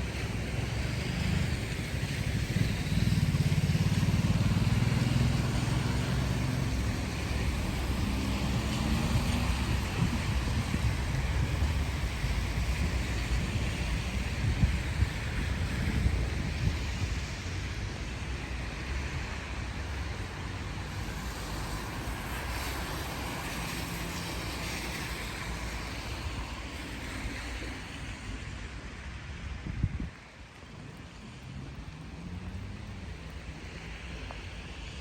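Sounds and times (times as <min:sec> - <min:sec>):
tyres hissing on wet road: 0:00.0 - 0:35.0
vehicle passing low rumble: 0:00.0 - 0:35.0.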